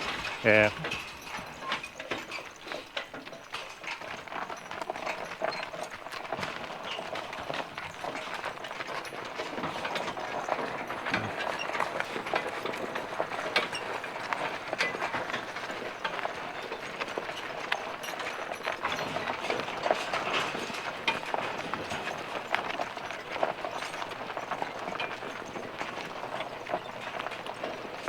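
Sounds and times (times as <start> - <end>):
wagon rattling and clattering: 0.0 - 28.0.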